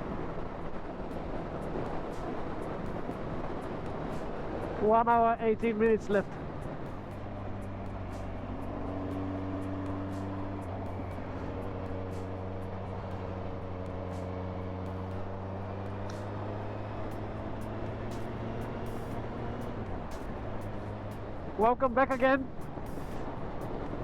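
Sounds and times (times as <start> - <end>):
motorcycle engine droning: 0.0 - 24.0
road and wind noise: 0.0 - 24.0.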